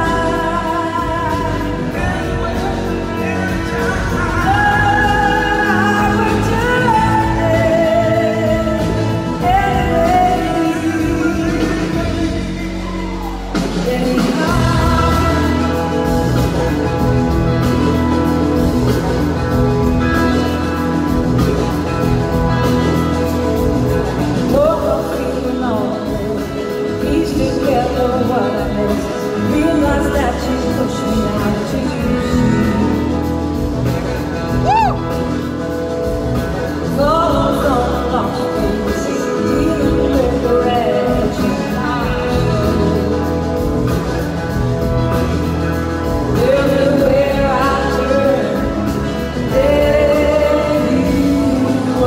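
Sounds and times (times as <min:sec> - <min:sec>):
live band playing soul-rock: 0:00.0 - 0:52.0
woman singing lead: 0:00.0 - 0:52.0.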